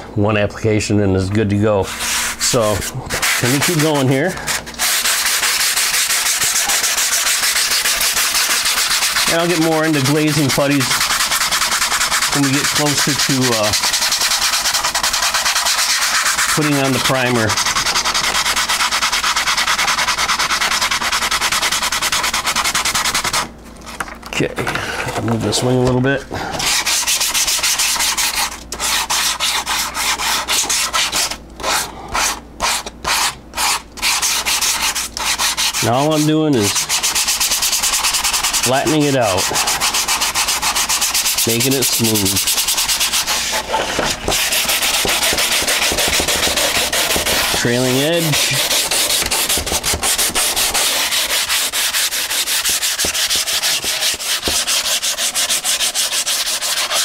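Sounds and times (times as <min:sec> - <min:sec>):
sandpaper scratching strokes: 0:01.8 - 0:23.5, 0:26.6 - 0:57.0.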